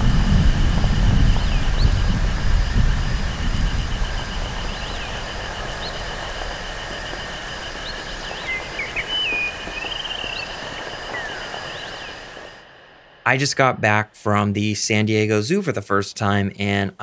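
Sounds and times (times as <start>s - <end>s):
pulsing high insect-like tones: 0.0s - 13.7s
synthesized rain-like hiss: 0.0s - 15.6s.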